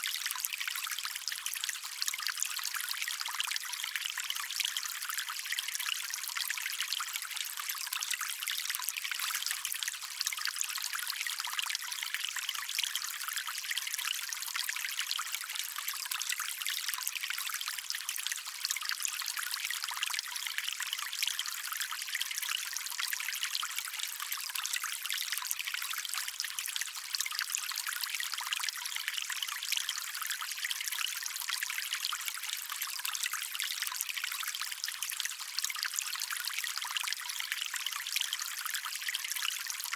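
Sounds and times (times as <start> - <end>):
shallow stream trickling: 0.0 - 39.9.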